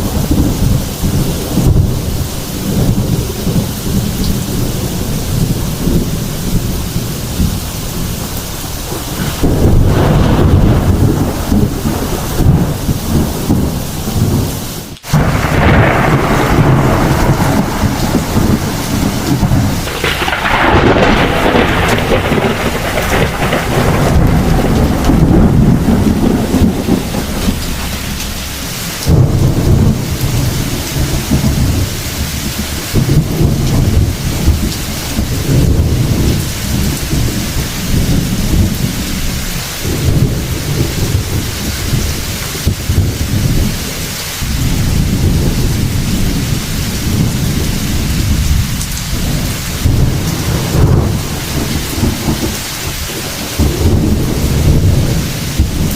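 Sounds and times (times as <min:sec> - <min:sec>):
steady rain: 0:00.0 - 0:55.9
thunder crack: 0:00.0 - 0:55.9
thunder rumbling: 0:00.0 - 0:55.9.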